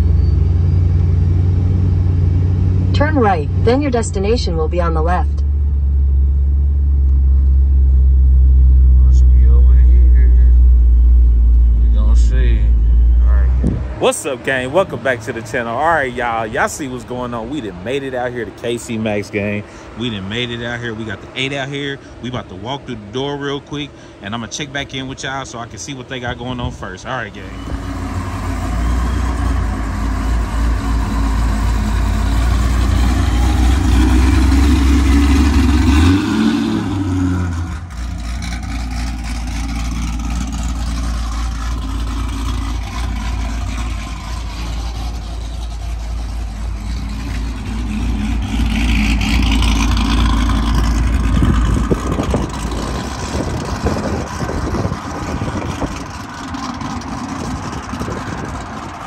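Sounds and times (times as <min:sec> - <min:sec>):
car engine rumbling: 0:00.0 - 0:59.0.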